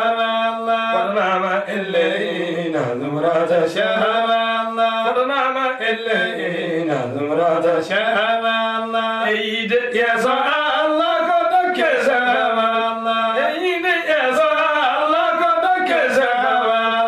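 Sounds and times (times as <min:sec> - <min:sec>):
men chanting unaccompanied: 0:00.0 - 0:17.0.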